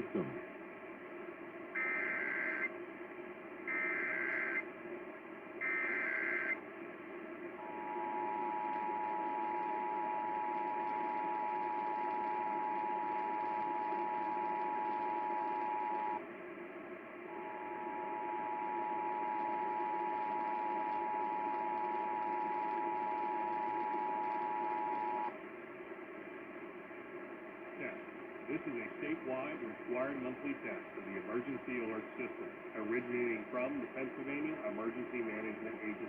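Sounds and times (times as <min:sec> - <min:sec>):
radio hiss: 0:00.0 - 0:16.4, 0:17.0 - 0:36.0.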